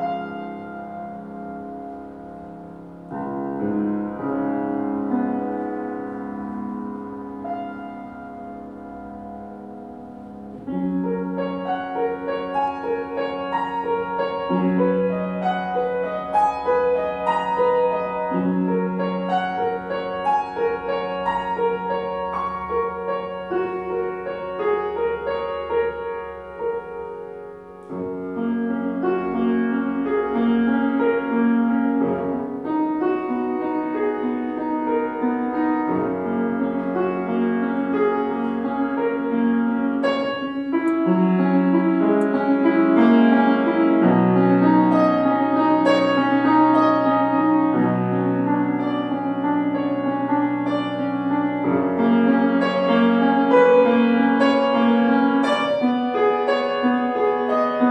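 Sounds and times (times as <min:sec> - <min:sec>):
solo piano piece: 0:00.0 - 0:57.9.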